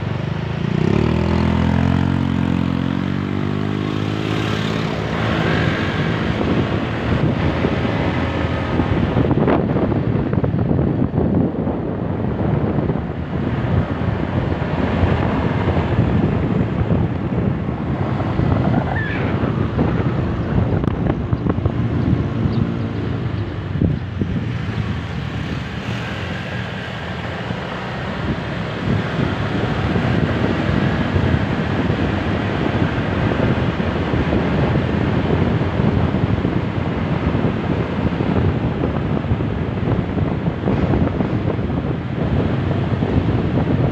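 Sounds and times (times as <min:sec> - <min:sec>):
motorcycle running: 0:00.0 - 0:43.9
road noise: 0:00.0 - 0:43.9
wind rushing over microphone: 0:00.0 - 0:43.9.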